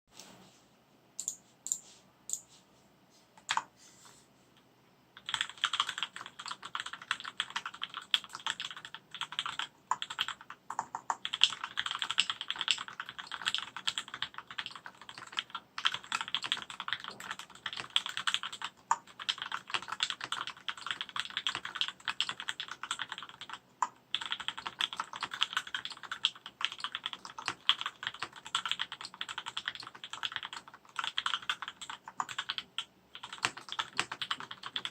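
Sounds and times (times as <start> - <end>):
mechanical keyboard typing: 1.2 - 2.4, 5.2 - 34.9.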